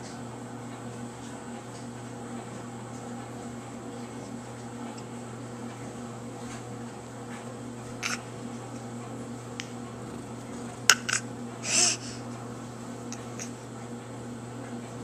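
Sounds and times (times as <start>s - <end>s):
room tone hum: 0.0s - 15.0s.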